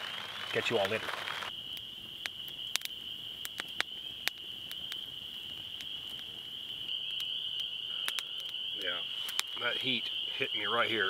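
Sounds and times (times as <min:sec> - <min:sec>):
campfire crackling and popping: 0:00.0 - 0:11.0
night insects chirping: 0:00.0 - 0:11.0.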